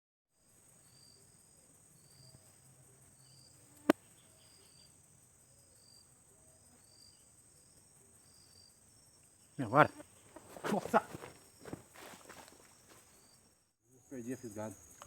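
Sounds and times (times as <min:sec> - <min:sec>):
insects droning: 0:00.4 - 0:15.0
short insect chirps: 0:00.4 - 0:15.0.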